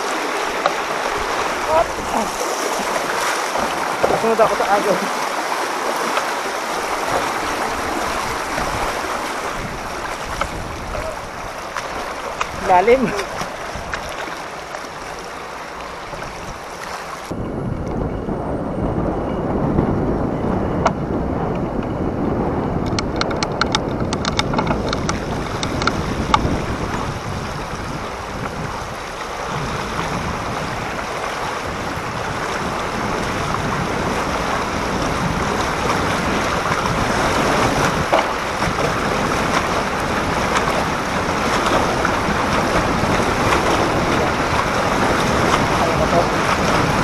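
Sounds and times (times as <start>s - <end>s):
floodwater churning and splashing: 0.0s - 47.0s
wind buffeting microphone: 0.0s - 47.0s.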